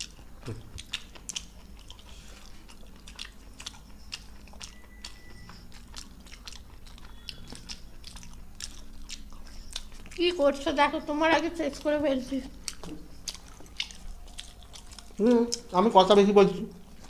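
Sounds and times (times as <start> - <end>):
people chewing with wet smacks: 0.0 - 17.0.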